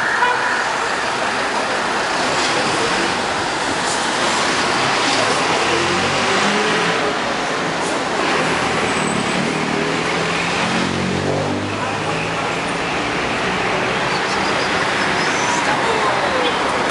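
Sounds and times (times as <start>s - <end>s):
cars passing: 0.0s - 16.9s.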